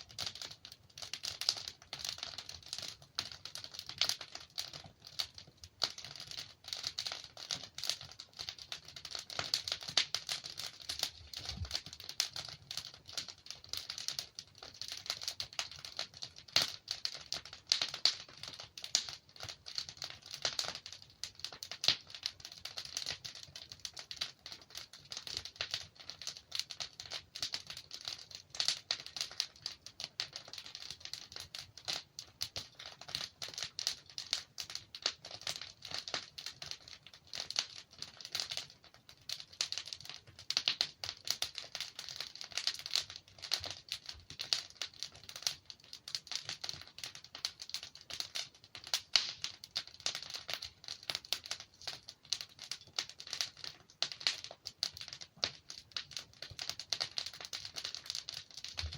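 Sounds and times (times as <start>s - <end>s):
logs crackling in fireplace: 0.0s - 58.9s.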